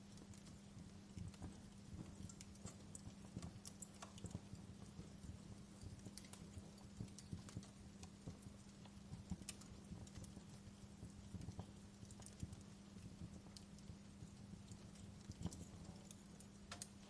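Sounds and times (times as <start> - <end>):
faint low hum: 0.0 - 17.0
wood fire crackling: 0.0 - 17.0.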